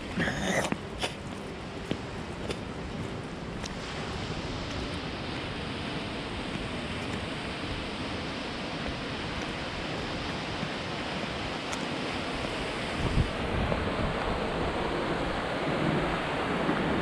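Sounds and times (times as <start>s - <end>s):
wind rumbling on microphone: 0.0s - 17.0s
ocean surf: 0.8s - 17.0s.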